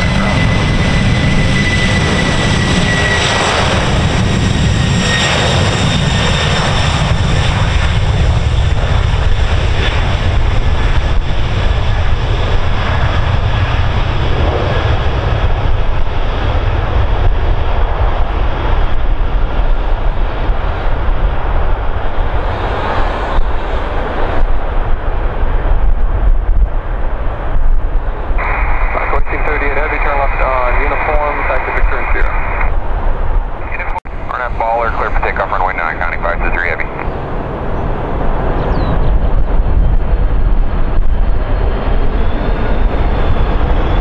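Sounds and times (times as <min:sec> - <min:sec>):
jet engines roaring on takeoff: 0:00.0 - 0:44.0
low crackling rumble: 0:00.0 - 0:44.0.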